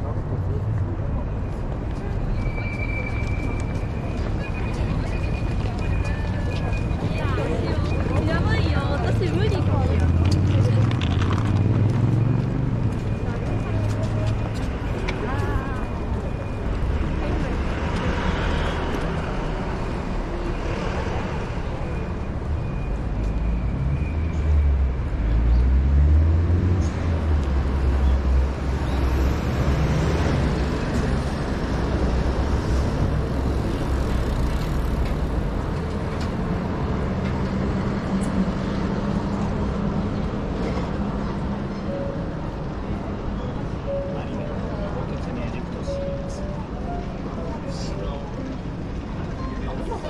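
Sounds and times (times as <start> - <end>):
heavy vehicle engine rumbling: 0.0 - 50.0
street traffic: 0.0 - 50.0.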